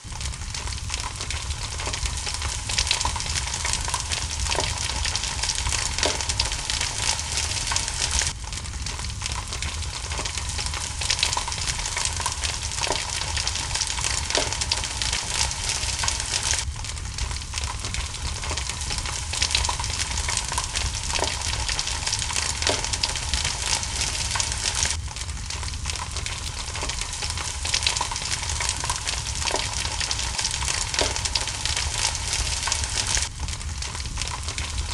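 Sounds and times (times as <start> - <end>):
rain hiss: 0.0 - 34.9
wood fire crackling and popping: 0.0 - 34.9.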